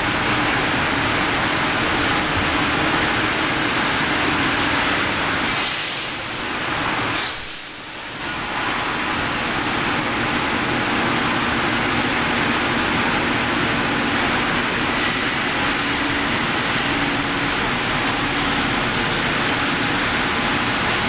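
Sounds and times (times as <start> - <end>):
rolling mill machinery din: 0.0 - 21.0.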